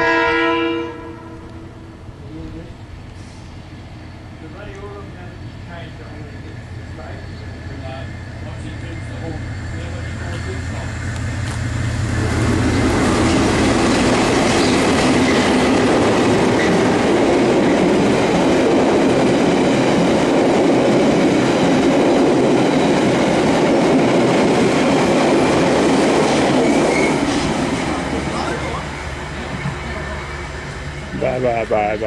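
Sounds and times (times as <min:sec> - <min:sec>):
diesel locomotive engine running: 0:01.4 - 0:32.0
train carriages rumbling and clattering: 0:02.0 - 0:32.0.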